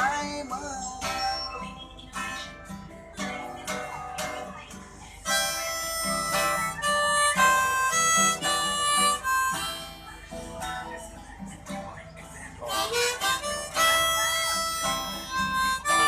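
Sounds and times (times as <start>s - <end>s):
harmonica melody: 0.0s - 4.5s, 5.2s - 16.0s
strummed acoustic guitar: 0.0s - 16.0s.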